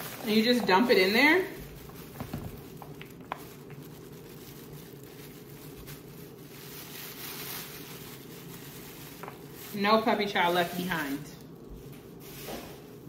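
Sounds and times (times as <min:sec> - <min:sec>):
low background hum: 0:00.0 - 0:13.0
plastic bag rustling: 0:00.0 - 0:13.0.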